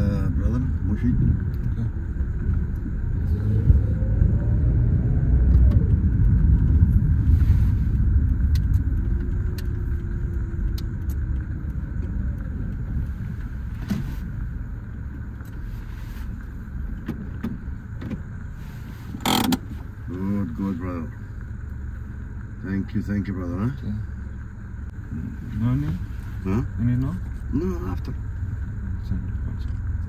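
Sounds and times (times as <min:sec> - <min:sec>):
car engine rumble: 0:00.0 - 0:30.0
road noise: 0:00.0 - 0:30.0.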